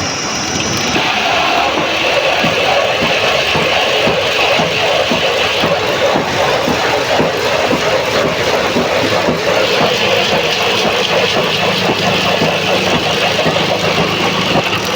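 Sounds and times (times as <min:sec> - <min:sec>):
woodworking machine running: 0:00.0 - 0:14.9.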